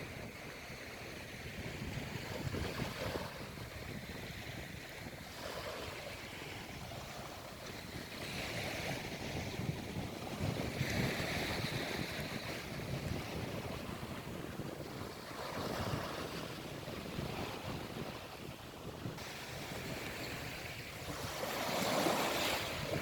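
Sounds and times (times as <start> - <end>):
sea waves breaking on beach: 0.0 - 23.0
wind buffeting microphone: 0.0 - 23.0.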